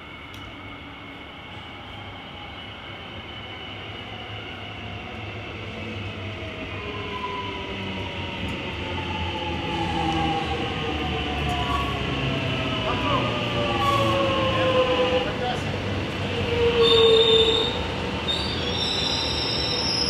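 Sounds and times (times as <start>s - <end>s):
electric train approaching: 0.0s - 20.0s.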